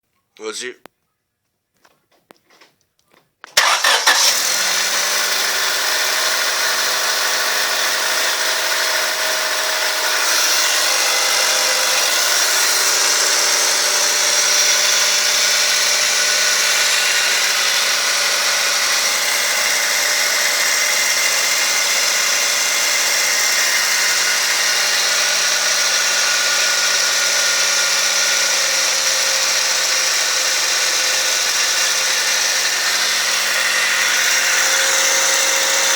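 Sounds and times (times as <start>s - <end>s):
car engine starting and idling: 3.6s - 35.9s.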